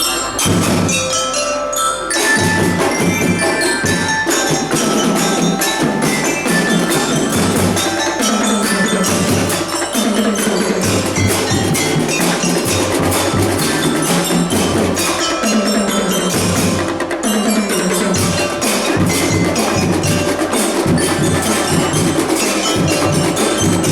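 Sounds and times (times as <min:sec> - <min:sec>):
drum band playing: 0:00.0 - 0:23.9
metal mallet bells melody: 0:00.0 - 0:23.9.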